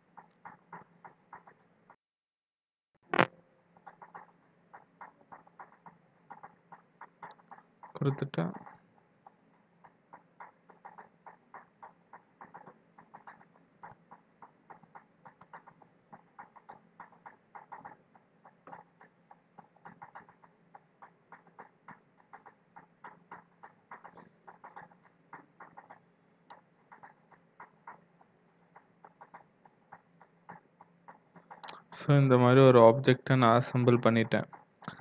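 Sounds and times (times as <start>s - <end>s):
computer mouse clicks: 3.1s - 31.9s.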